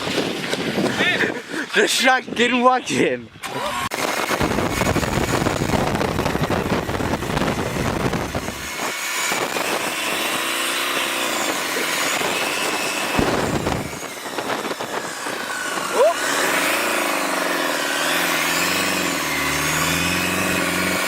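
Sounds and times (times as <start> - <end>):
car engine rumbling and revving: 3.4 - 21.0.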